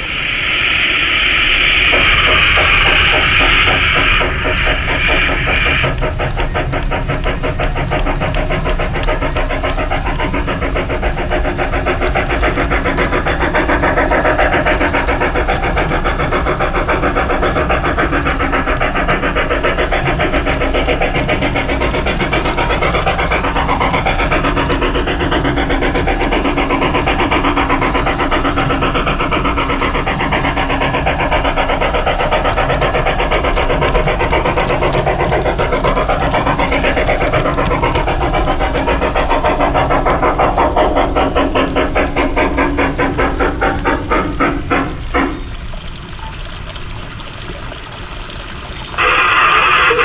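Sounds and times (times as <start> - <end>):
steam locomotive chuffing: 0.0 - 50.0
wheels rumbling on track: 0.0 - 50.0.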